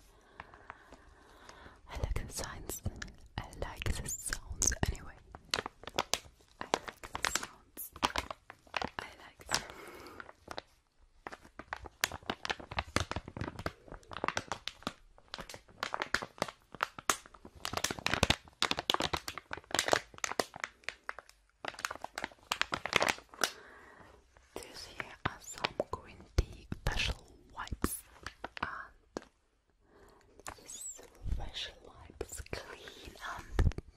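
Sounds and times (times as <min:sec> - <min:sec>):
crinkly material crackling: 0:00.0 - 0:33.9.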